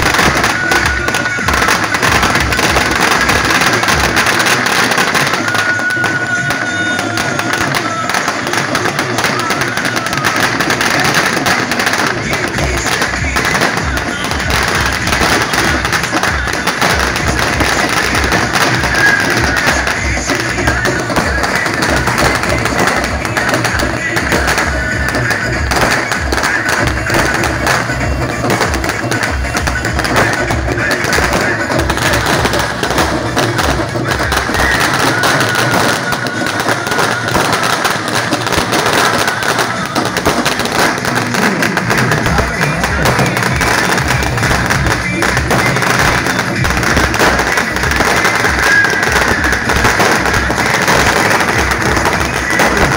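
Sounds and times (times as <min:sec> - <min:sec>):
firecrackers crackling: 0:00.0 - 0:52.9
procession music with drum beat: 0:00.0 - 0:52.9.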